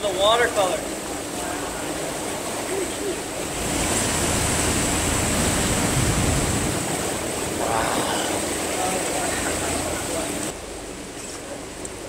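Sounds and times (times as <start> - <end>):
sea waves surging against rock: 0.0 - 12.0.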